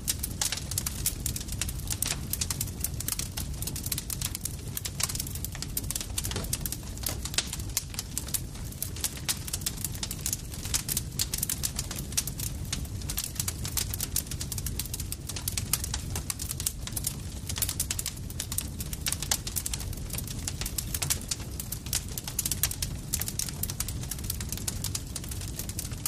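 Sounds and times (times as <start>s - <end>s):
campfire crackling and popping: 0.0s - 26.0s
low rumble of burning fire: 0.0s - 26.0s.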